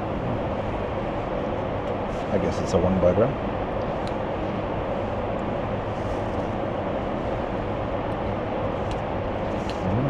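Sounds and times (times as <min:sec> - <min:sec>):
airplane cabin noise: 0:00.0 - 0:10.0.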